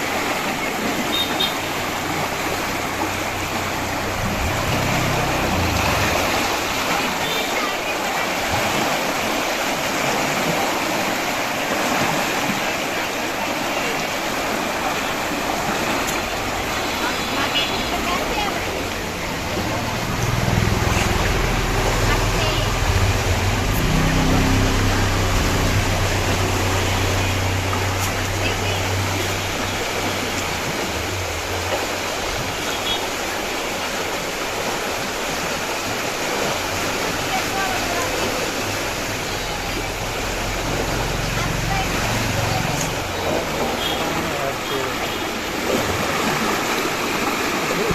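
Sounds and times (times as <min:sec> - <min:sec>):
water rushing through sluice gate: 0:00.0 - 0:47.9.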